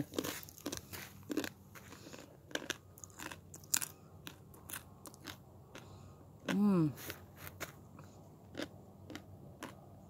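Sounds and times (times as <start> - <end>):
crunching dry noodles: 0.0 - 9.9.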